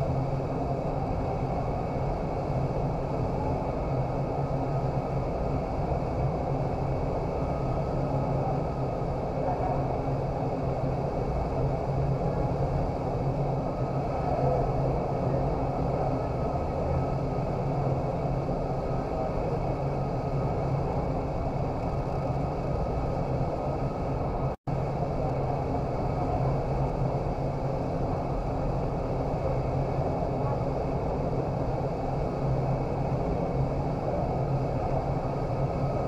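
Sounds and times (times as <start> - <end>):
low fan hum: 0.0 - 36.0.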